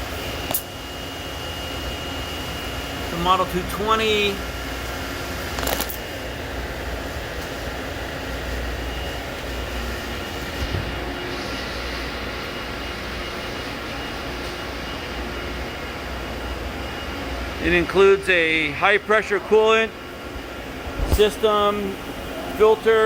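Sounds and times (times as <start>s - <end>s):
faint high whine: 0.0s - 23.0s
ventilation noise: 0.0s - 23.0s.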